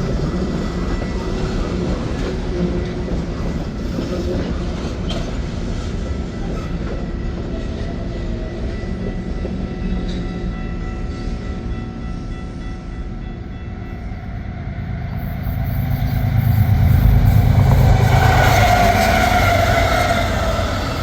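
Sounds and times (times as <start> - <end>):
freight train clickety-clack: 0.0 - 21.0.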